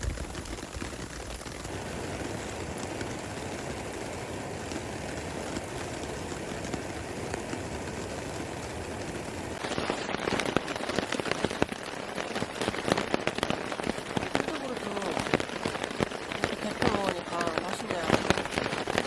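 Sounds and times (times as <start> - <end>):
raindrops pattering on surface: 0.0 - 19.0
steady rain: 0.0 - 19.0.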